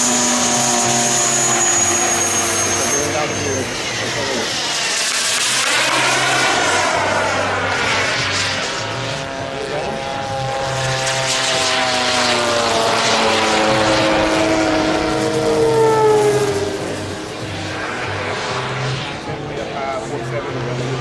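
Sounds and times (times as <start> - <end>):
model airplane engine drone: 0.0 - 21.0.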